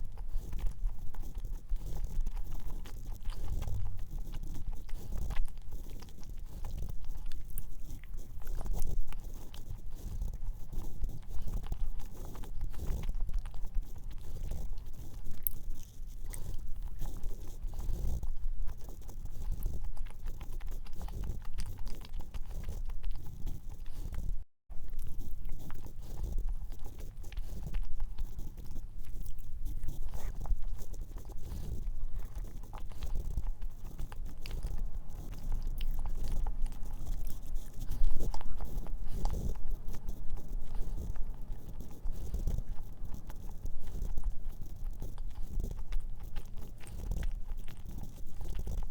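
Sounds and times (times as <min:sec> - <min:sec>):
close chewing of cookie: 0:00.0 - 0:48.9
wet mouth sounds: 0:00.0 - 0:48.9.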